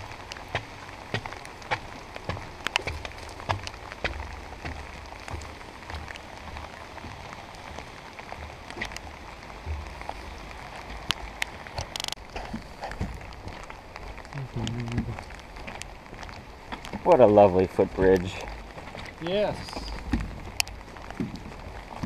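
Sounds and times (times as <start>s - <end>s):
footsteps on wet deck: 0.0s - 22.0s
raindrop taps: 0.0s - 22.0s
steady rain: 0.0s - 22.0s.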